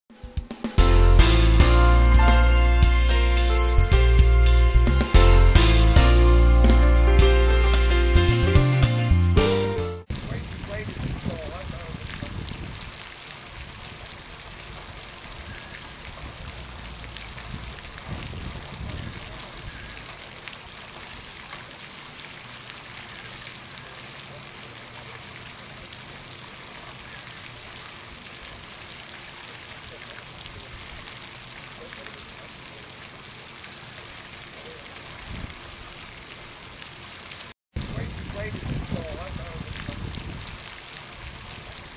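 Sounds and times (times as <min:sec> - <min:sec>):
fountain water splashing: 0:00.8 - 0:41.9.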